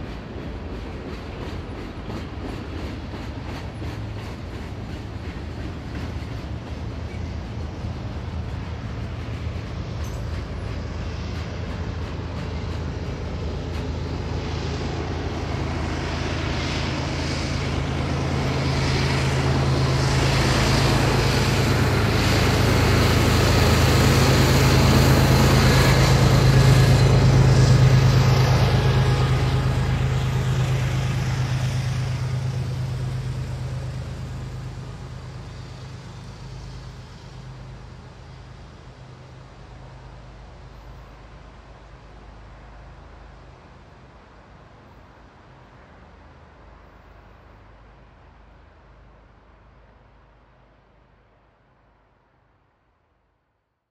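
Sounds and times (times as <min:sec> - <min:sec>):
wheel and rail noise: 0:00.0 - 0:52.0
diesel locomotive engine drone: 0:00.0 - 0:53.5.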